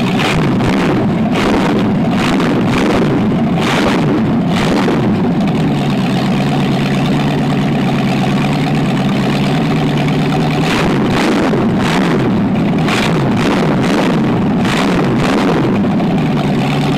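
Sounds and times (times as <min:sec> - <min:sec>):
engine revving and idling: 0:00.0 - 0:16.9.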